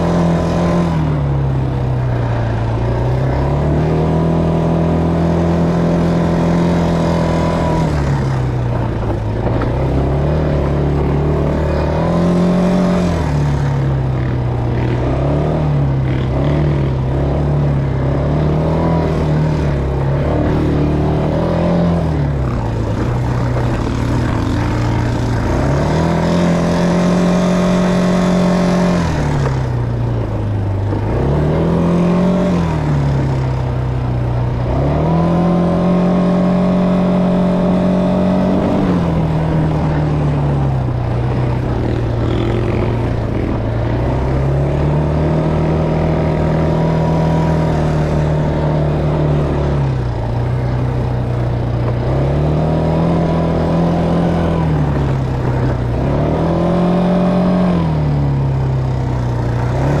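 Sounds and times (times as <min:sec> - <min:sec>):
quad bike engine revving: 0:00.0 - 1:00.0.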